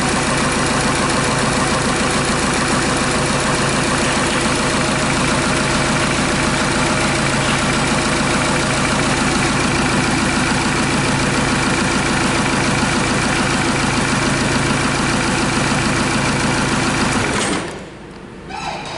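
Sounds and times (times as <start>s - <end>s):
diesel engine idling: 0.0s - 17.4s.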